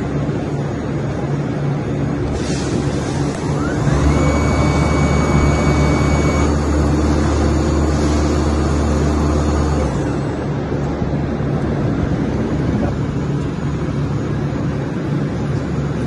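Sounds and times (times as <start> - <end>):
coil winding machine whine: 0.0 - 16.0
production-line machine noise: 0.0 - 16.0.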